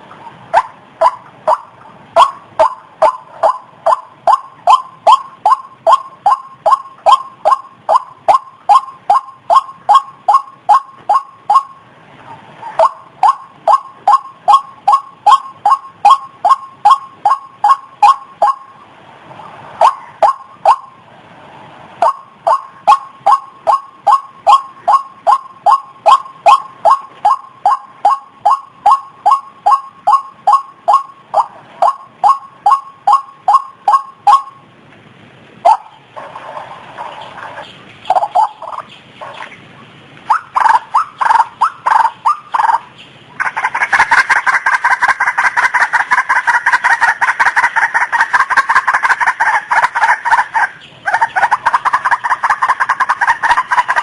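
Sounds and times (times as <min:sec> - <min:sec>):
waterhen calling: 0:00.0 - 0:21.0, 0:22.0 - 0:34.8, 0:35.6 - 0:54.0.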